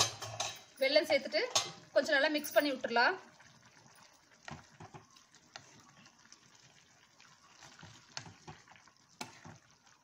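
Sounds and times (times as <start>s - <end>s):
faint wet stirring: 0.0s - 10.0s.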